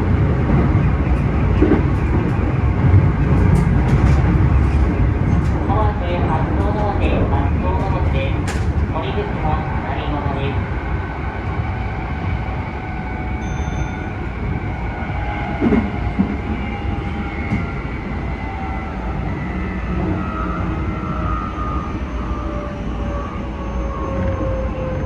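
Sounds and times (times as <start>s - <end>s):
train running on track: 0.0s - 25.0s.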